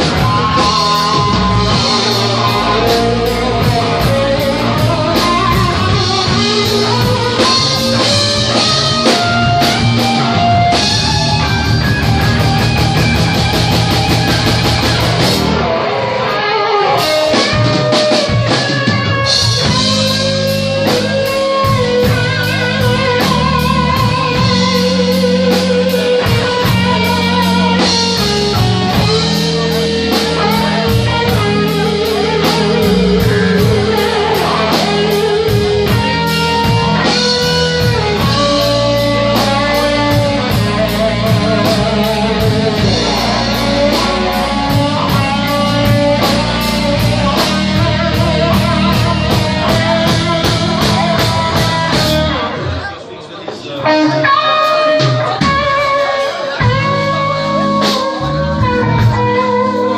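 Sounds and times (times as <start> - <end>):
electric guitar wavering notes: 0.0 - 59.9
live blues-rock band: 0.0 - 59.9.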